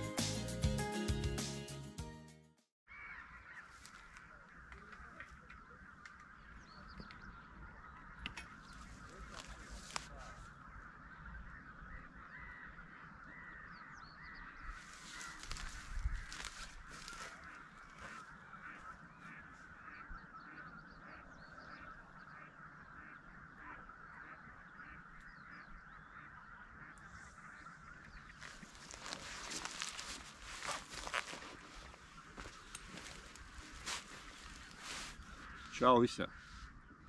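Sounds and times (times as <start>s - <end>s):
water birds calling: 2.9s - 37.0s.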